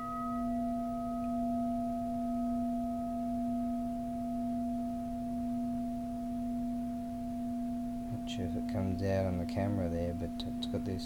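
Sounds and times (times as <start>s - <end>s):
large bell ringing with low hum: 0.0s - 11.0s.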